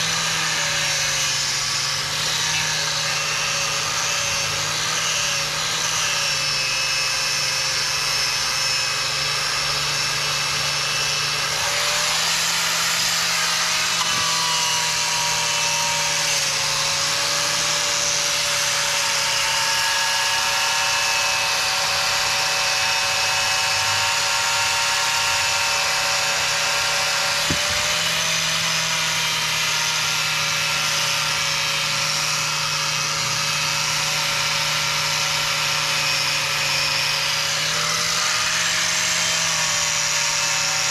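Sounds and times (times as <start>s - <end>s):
wire brush grinder on metal: 0.0s - 40.9s.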